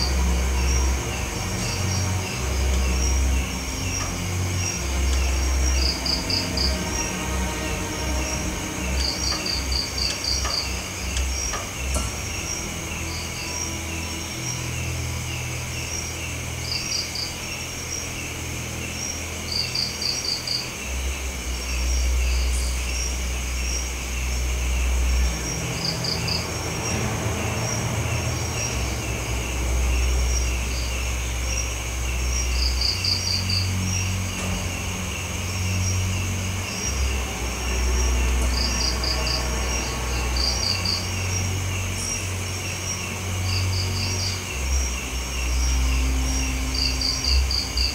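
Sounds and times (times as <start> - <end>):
crickets trilling: 0.0 - 47.9
insect chirps: 0.0 - 47.9
low steady hum: 0.0 - 47.9.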